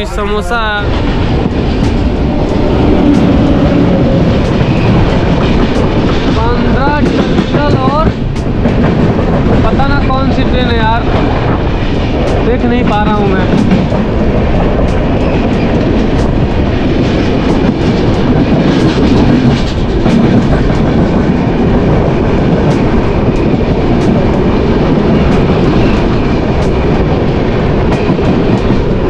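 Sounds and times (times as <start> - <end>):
passenger trains rumbling past: 0.0 - 29.0.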